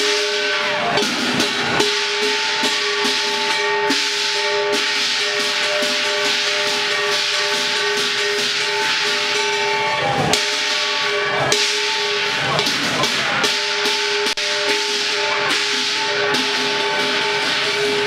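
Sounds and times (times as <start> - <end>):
clashing cymbals: 0.0 - 18.0
sharp percussion strikes: 0.0 - 18.0
shrill wind instrument: 0.0 - 18.0.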